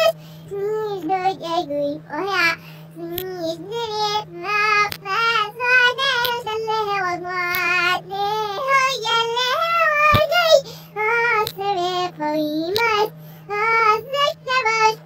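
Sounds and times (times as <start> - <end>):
child singing: 0.0 - 15.0
faint steady hum: 0.0 - 15.0.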